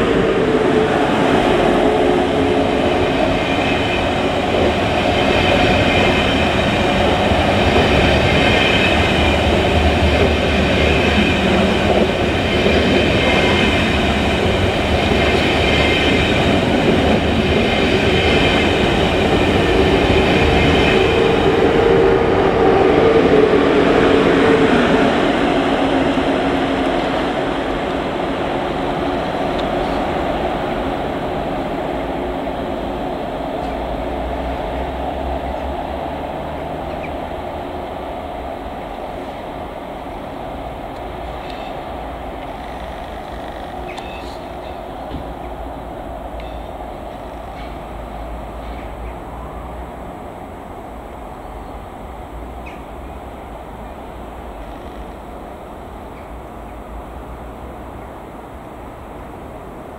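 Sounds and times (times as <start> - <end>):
train wheels rumbling on rails: 0.0 - 59.9
train whine: 0.0 - 59.9.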